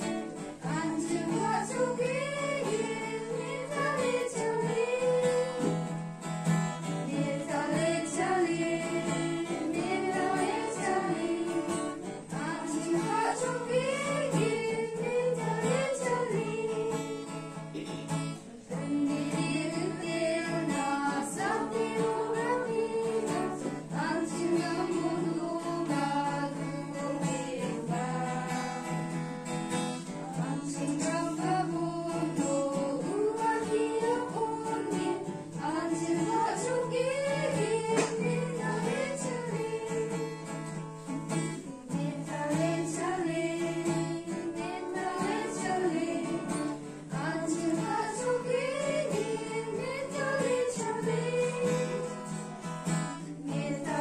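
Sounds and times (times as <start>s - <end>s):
strummed acoustic guitar: 0.0s - 54.0s
women singing together: 0.0s - 54.0s.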